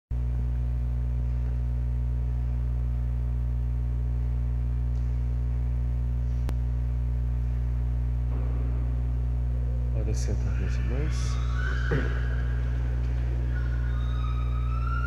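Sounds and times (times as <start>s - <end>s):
low electrical hum: 0.2s - 15.0s.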